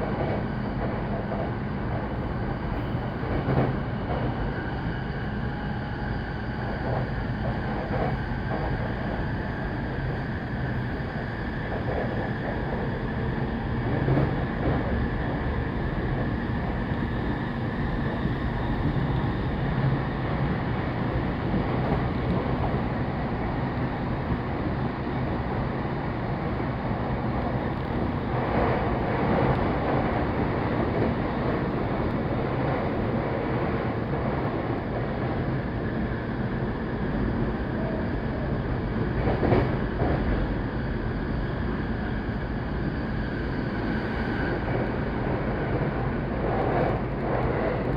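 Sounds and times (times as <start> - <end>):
wheels rumbling on rail: 0.0 - 47.9.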